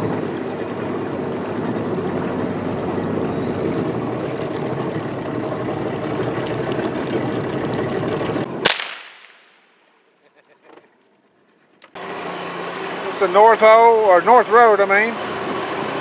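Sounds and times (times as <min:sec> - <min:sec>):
water rushing along hull: 0:00.0 - 0:08.5, 0:11.2 - 0:16.0
boat motor droning: 0:00.0 - 0:08.6, 0:10.7 - 0:16.0.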